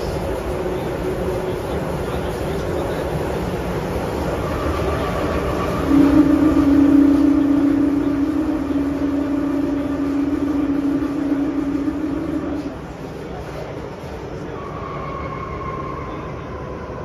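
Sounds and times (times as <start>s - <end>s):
loud steady traction whine: 0.0s - 17.0s
train rumble: 0.0s - 17.0s.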